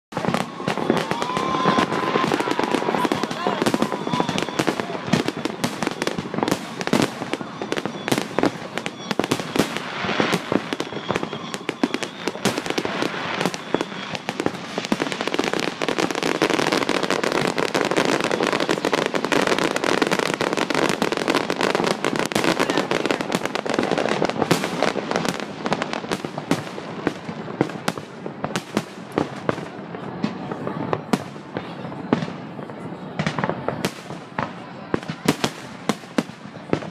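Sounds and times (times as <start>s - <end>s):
fireworks bangs and crackle: 0.1s - 36.9s.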